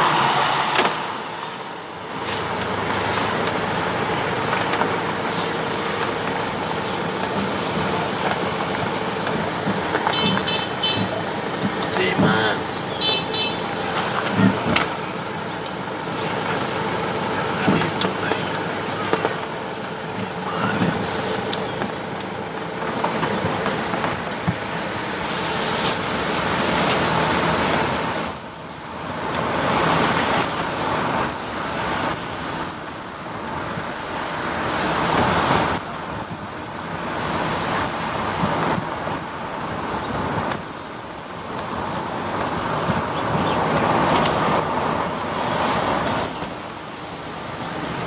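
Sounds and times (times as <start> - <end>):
car tyre and wind rush: 0.0 - 48.0.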